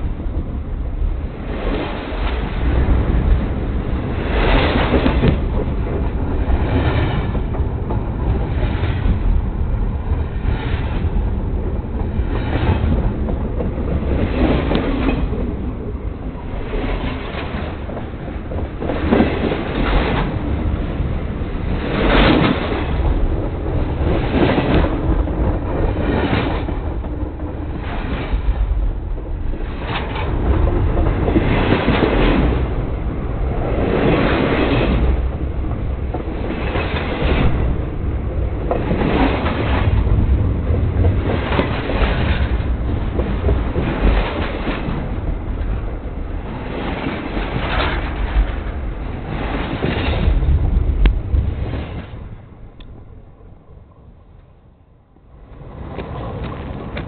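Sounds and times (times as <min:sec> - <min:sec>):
train rumbling overhead: 0:00.0 - 0:57.0
wheels clattering over rails: 0:01.4 - 0:53.6.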